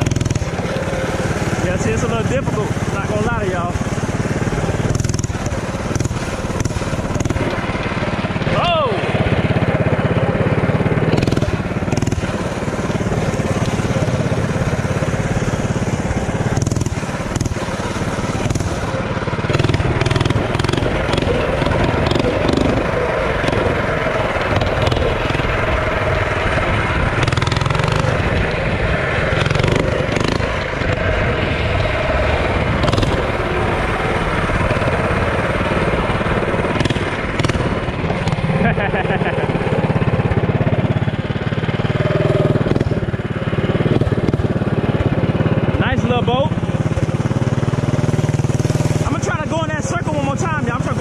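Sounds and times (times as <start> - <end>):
mini bike engine revving: 0.0 - 51.0.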